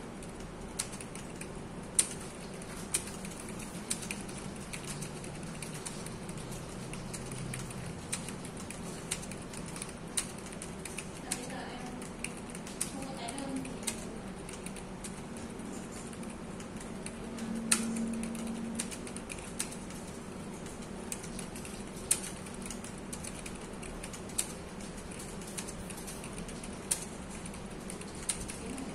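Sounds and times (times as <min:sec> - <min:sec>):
typing on computer keyboard: 0:00.1 - 0:28.9.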